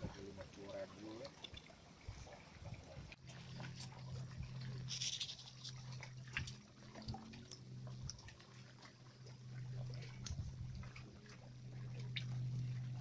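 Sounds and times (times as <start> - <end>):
small clicks and splashes: 0.0 - 13.0
small waves lapping against raft: 0.0 - 13.0
steady low hum: 1.9 - 13.0.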